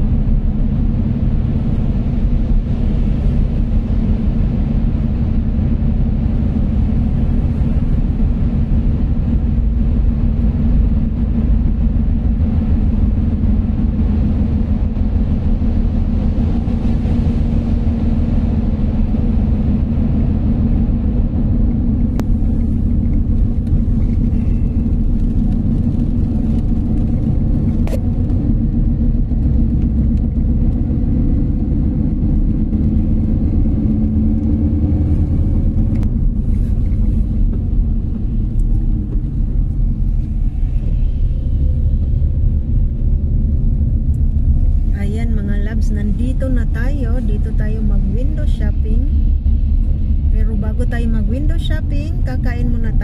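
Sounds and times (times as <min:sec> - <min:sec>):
car cabin rumble: 0:00.0 - 0:53.0
tyres on wet road: 0:00.8 - 0:53.0.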